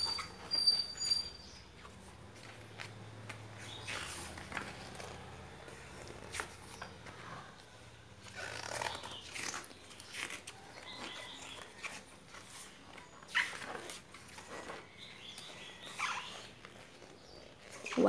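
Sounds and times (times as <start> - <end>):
book pages turning: 1.6 - 18.0.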